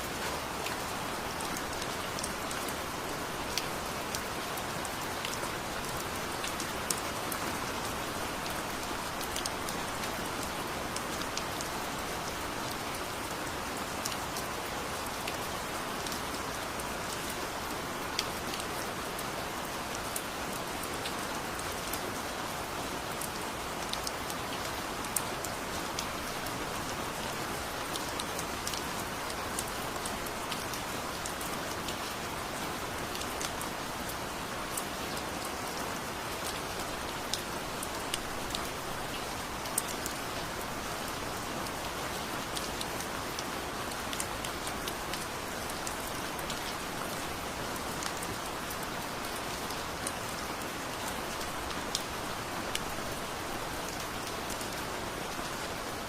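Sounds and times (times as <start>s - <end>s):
rain drops ticking: 0.1s - 56.0s.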